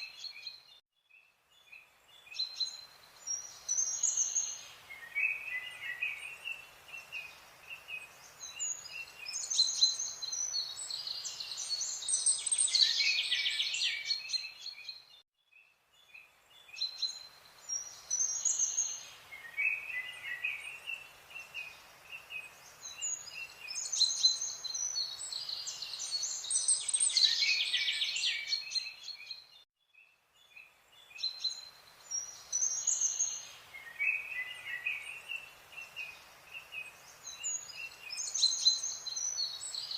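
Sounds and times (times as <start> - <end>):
faint background hiss: 0.0 - 39.9
birds chirping and trilling: 1.5 - 15.2, 15.9 - 39.9.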